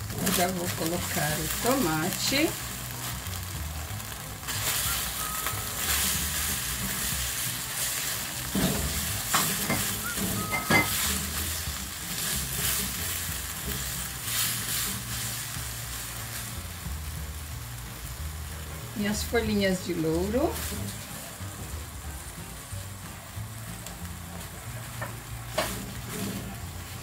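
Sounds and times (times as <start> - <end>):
tomatoes sizzling in a pan: 0.0 - 27.0.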